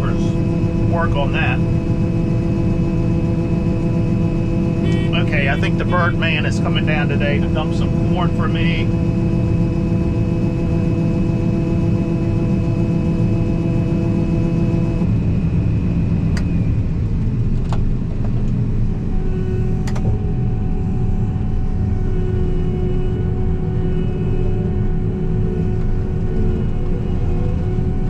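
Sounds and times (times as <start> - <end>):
combine harvester droning: 0.0 - 28.0.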